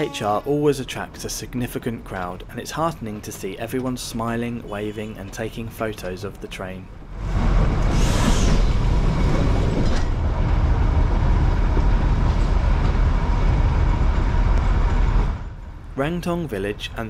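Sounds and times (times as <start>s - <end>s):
train coaches rumbling: 0.0s - 17.0s.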